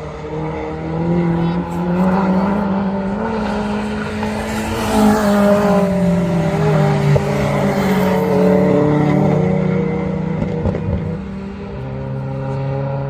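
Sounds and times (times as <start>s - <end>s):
race car engines running hard: 0.0s - 13.0s
race car passing by: 0.0s - 13.0s.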